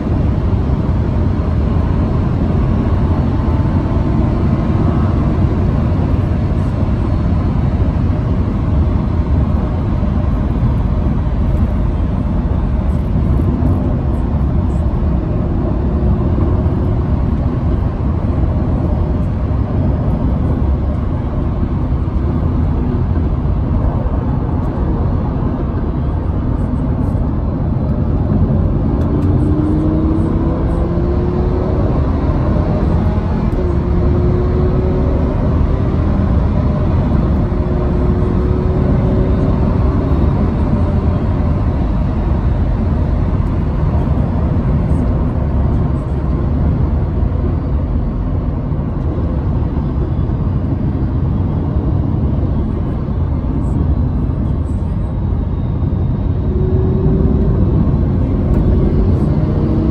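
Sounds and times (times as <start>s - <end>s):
car engine from inside cabin: 0.0s - 59.9s
low rumble of road noise: 0.0s - 59.9s.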